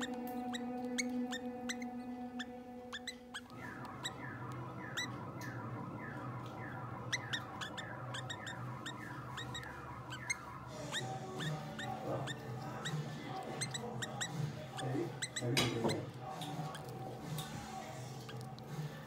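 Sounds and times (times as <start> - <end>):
steady low hum: 0.0 - 15.3
canaries cheeping: 0.0 - 19.0.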